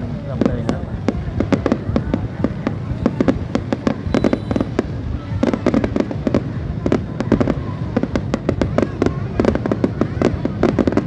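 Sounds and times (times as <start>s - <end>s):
fireworks bangs and crackles: 0.0s - 11.0s
steady low rumble: 0.0s - 11.0s.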